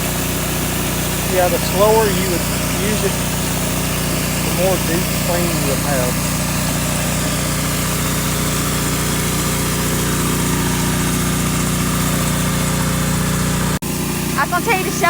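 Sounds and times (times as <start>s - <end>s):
pressure washer engine hum: 0.0s - 15.0s
water spray hissing on concrete: 0.0s - 15.0s.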